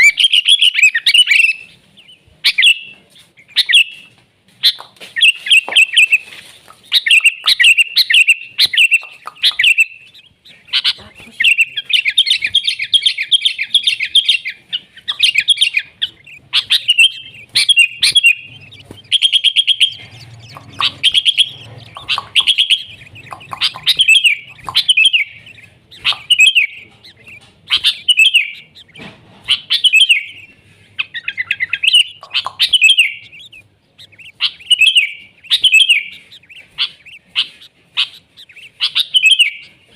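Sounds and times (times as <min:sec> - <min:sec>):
bird singing whistled phrases: 0:03.5 - 0:06.3, 0:06.9 - 0:39.8.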